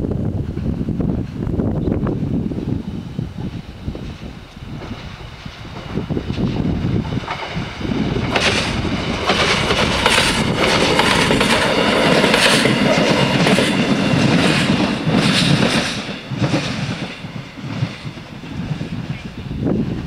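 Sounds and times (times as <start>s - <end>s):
train wheels clicking over rail joints: 3.4s - 20.0s.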